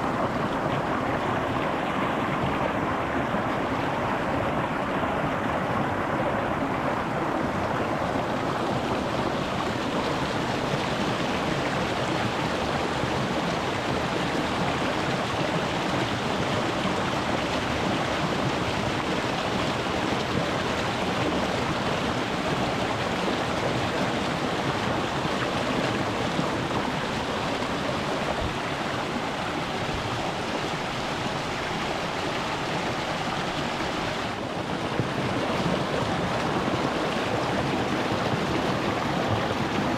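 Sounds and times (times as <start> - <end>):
stream splashing over stones: 0.0 - 39.9.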